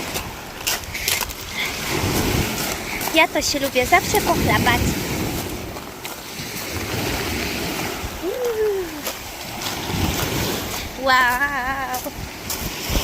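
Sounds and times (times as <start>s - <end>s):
water splashing and sloshing: 0.0s - 13.0s
waves washing: 0.0s - 13.0s.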